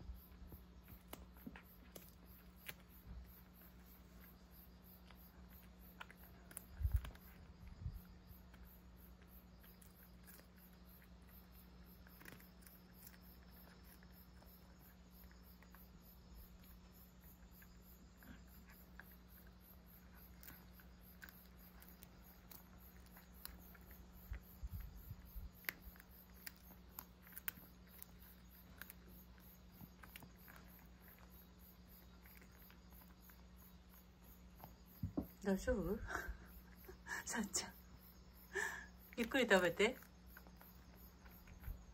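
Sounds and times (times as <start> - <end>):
cat chewing and crunching: 0.0 - 41.9.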